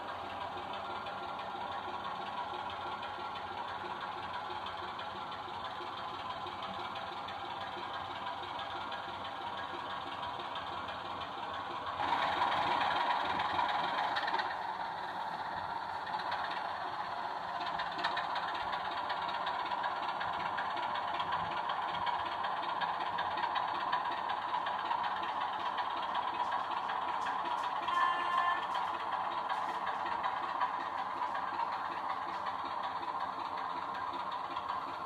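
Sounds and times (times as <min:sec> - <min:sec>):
diesel engine drone through small speaker: 0:00.0 - 0:35.0.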